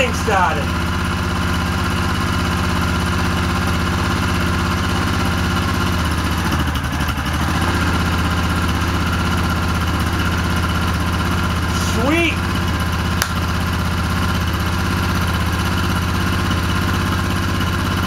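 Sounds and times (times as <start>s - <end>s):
atv engine idling: 0.0s - 18.0s.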